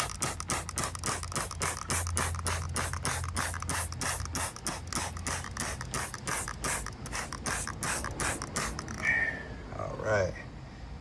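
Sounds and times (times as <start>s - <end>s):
brush scrubbing tire: 0.0s - 9.0s.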